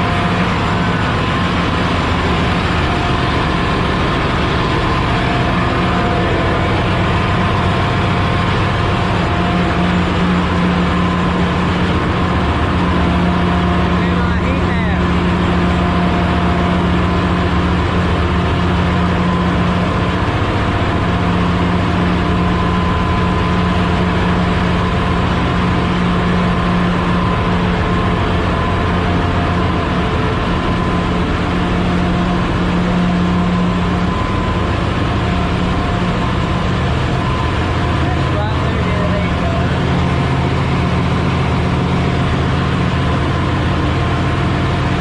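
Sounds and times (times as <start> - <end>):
engine room machinery drone: 0.0 - 45.0.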